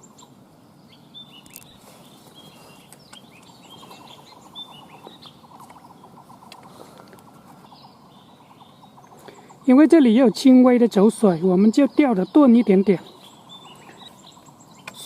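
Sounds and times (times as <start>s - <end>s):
birds chirping: 0.0s - 15.0s
faint outdoor background noise: 0.0s - 15.0s.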